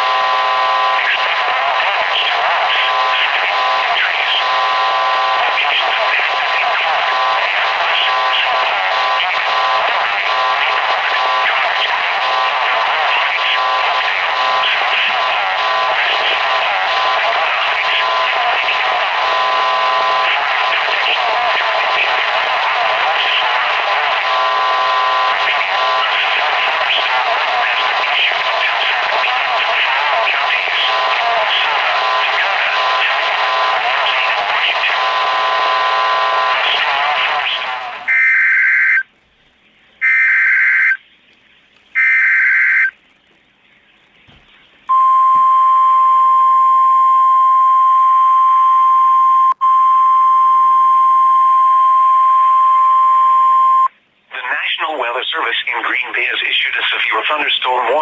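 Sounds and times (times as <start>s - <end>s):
voice through radio receiver: 0.0s - 39.1s, 40.0s - 41.0s, 42.0s - 43.0s, 44.3s - 58.0s
radio static hiss: 0.0s - 58.0s.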